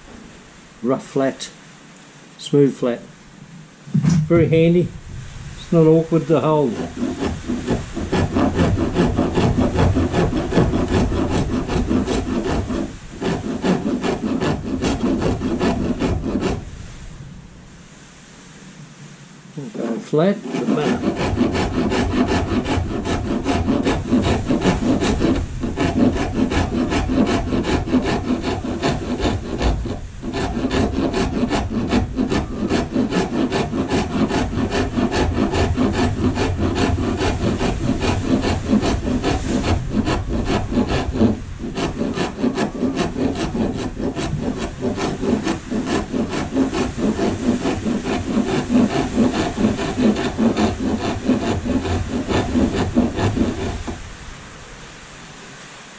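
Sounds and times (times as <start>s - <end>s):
hand rasp filing wood: 5.7s - 16.7s, 19.6s - 54.1s.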